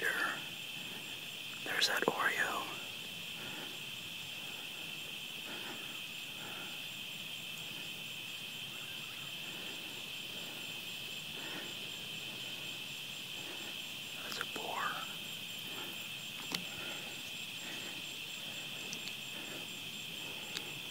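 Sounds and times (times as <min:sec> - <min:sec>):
crickets trilling: 0:00.0 - 0:20.9.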